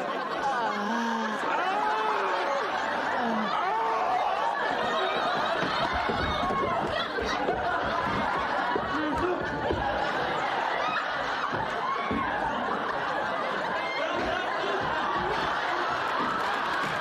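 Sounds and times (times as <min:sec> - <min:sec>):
studio audience laughing: 0:00.0 - 0:17.0.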